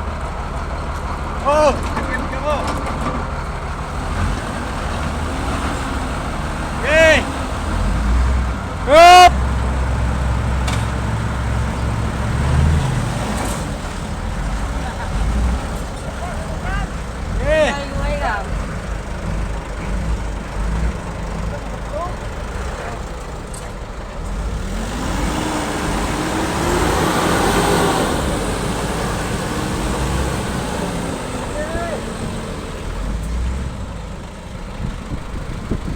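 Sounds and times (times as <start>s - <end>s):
heavy equipment engine running: 0.0s - 35.9s.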